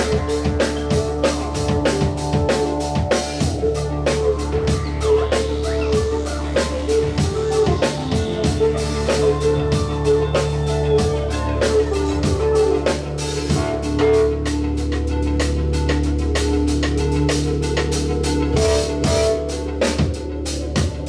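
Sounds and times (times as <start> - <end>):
drum kit beat: 0.0 - 21.0
live band playing: 0.0 - 21.0.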